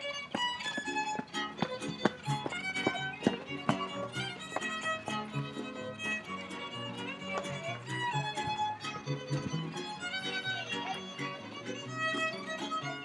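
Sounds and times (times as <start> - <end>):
strummed string chords: 0.0 - 13.0
violin melody: 0.0 - 13.0
plucked bass notes: 0.4 - 13.0.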